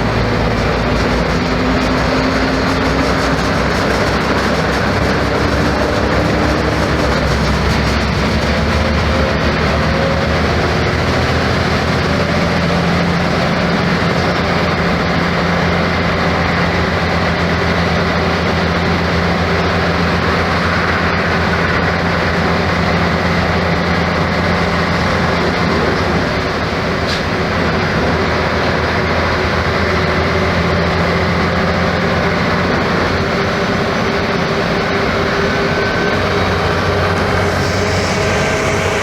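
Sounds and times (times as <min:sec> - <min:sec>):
bus diesel engine drone: 0:00.0 - 0:39.0.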